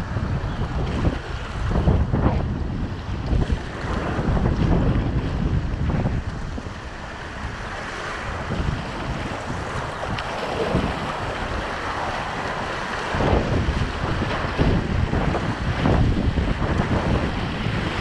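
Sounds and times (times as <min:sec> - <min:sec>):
wind buffeting microphone: 0:00.0 - 0:18.0
whitewater rapids rushing: 0:03.3 - 0:18.0.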